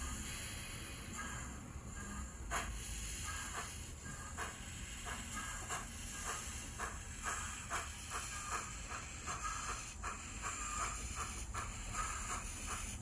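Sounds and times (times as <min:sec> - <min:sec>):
model steam exhaust chuffs: 0:00.0 - 0:13.0
steady hiss: 0:02.4 - 0:13.0.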